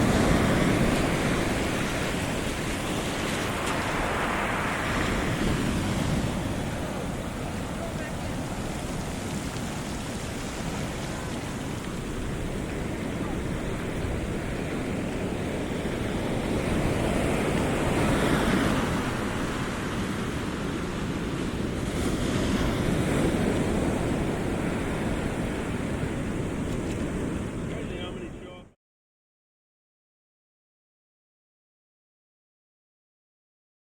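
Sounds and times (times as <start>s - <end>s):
wind rumbling on microphone: 0.0s - 28.7s
ocean waves washing in: 0.0s - 28.8s.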